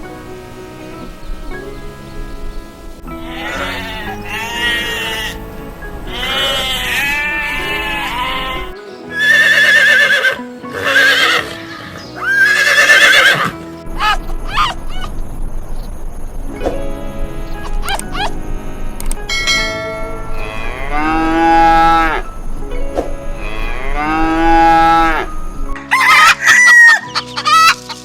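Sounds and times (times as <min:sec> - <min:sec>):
background music: 0:00.0 - 0:28.0
farm animal calls: 0:00.3 - 0:16.4, 0:17.1 - 0:28.0.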